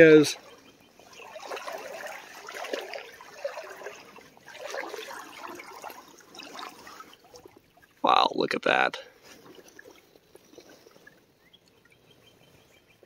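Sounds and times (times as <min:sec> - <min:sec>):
creek water splashing: 0:00.0 - 0:13.0.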